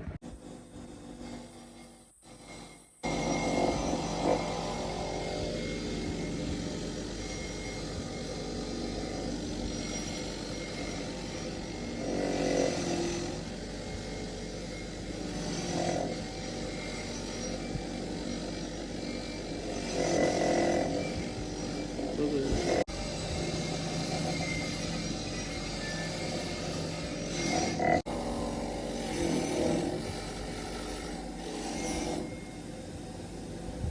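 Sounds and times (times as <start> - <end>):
workshop machine motor running: 0.0 - 33.9.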